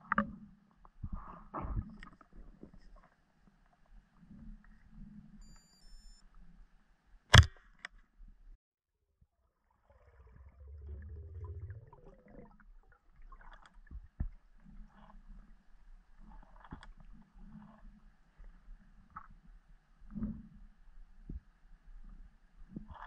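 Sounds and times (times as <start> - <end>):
rumble of moving water: 0.0 - 6.8, 9.2 - 23.0.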